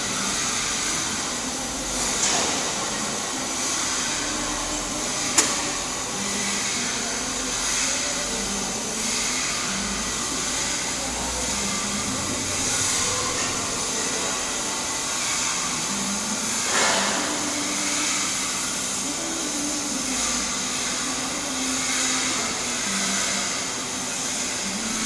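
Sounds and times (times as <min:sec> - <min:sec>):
welding arc hissing: 0:00.0 - 0:25.0.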